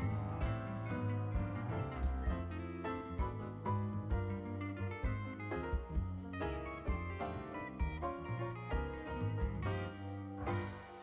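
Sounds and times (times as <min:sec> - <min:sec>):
light jazz instrumental music: 0:00.0 - 0:11.0.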